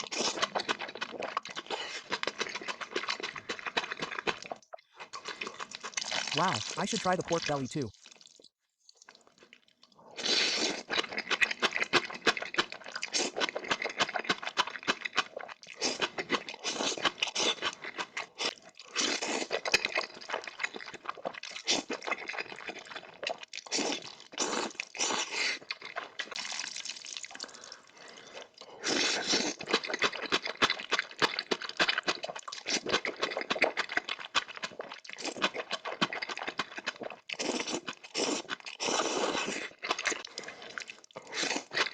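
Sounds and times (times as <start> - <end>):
noodles slurped and chewed: 0.0 - 41.9.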